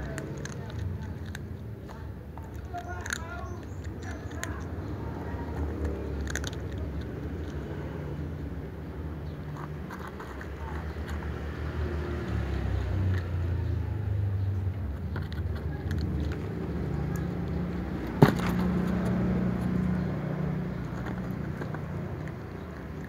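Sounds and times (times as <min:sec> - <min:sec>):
cats crunching dry kibble: 0:00.0 - 0:23.0
low engine hum: 0:00.0 - 0:23.0.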